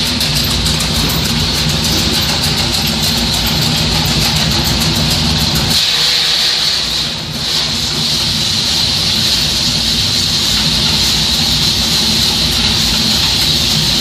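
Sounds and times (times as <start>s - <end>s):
factory machinery running: 0.0s - 14.0s.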